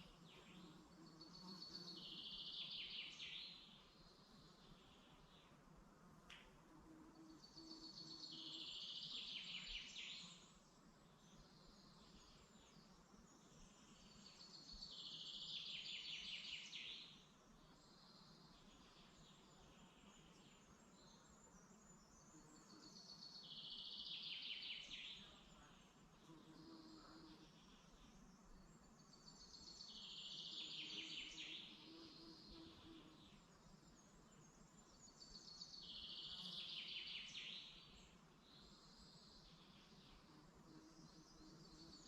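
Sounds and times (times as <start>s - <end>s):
faint forest background: 0.0s - 42.0s
songbird singing: 0.0s - 42.0s.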